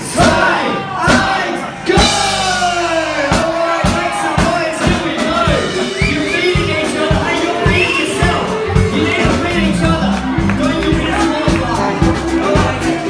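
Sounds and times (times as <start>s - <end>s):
crowd voices and shouting: 0.0s - 13.0s
loud music with drum beat: 0.0s - 13.0s.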